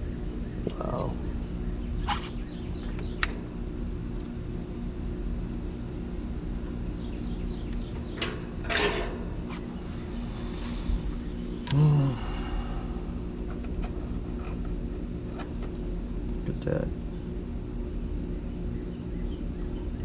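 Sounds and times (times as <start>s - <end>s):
birds chirping: 0.0s - 13.2s, 14.4s - 20.0s
low machine hum: 0.0s - 20.0s.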